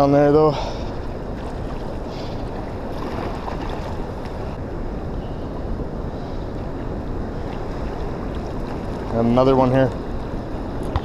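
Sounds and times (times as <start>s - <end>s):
moving water: 0.0s - 4.6s, 5.5s - 11.0s
wind buffeting microphone: 0.0s - 11.0s.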